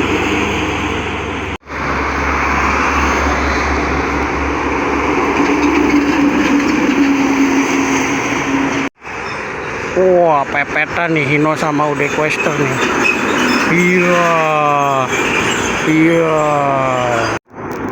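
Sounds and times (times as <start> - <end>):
heavy trucks passing on highway: 0.0 - 17.9.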